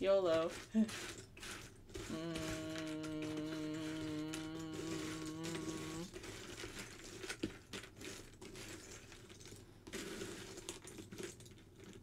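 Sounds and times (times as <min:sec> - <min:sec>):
puzzle pieces rustling and clicking: 0:00.5 - 0:12.0.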